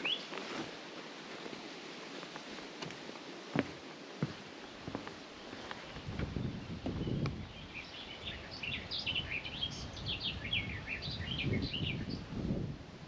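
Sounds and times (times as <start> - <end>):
songbird singing: 0.0 - 12.4.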